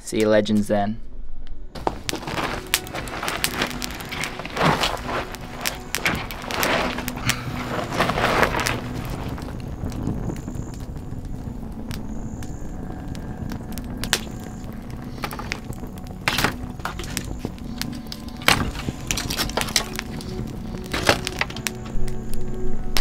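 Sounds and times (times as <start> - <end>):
campfire crackling: 1.7 - 23.0
wood snapping and popping: 1.8 - 23.0.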